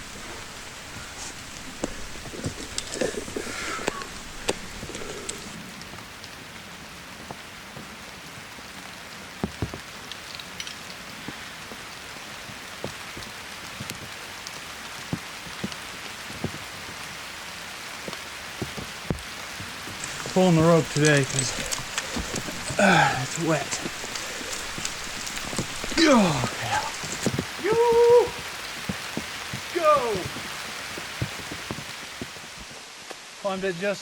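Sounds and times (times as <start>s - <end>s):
raindrops tapping nearby: 0.0s - 6.4s, 7.3s - 33.4s
rain falling: 0.0s - 34.0s.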